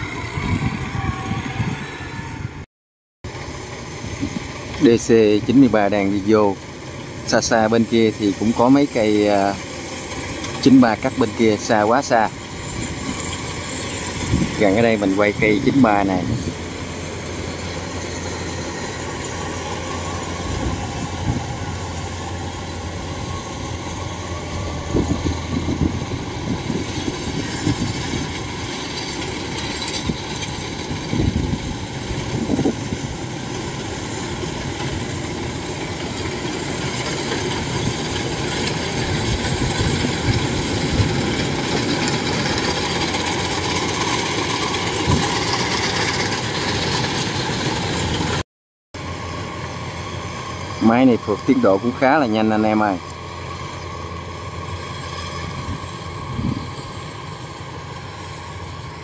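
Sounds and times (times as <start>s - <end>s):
combine harvester drone: 0.0s - 2.6s, 3.3s - 48.4s, 49.0s - 59.0s.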